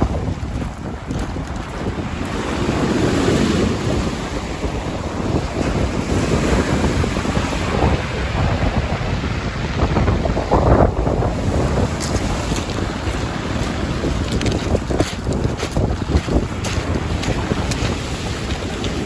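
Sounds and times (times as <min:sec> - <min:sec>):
sea waves on beach: 0:00.0 - 0:19.0
wind buffeting microphone: 0:00.0 - 0:19.0.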